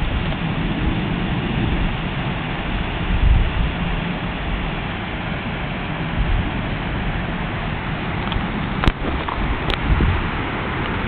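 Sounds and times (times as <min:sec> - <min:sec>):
water rushing over rocks: 0:00.0 - 0:11.0
wind buffeting microphone: 0:00.0 - 0:11.0.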